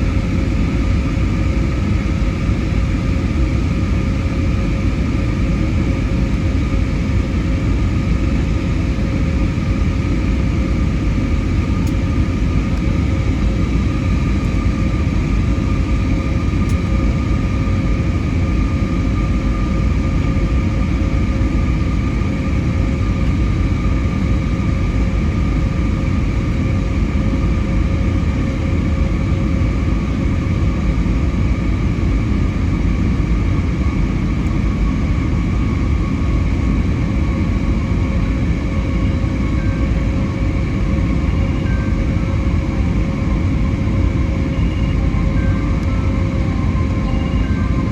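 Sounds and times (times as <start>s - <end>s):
airplane cabin rumble: 0.0s - 47.9s
jet engine whining tones: 0.0s - 47.9s.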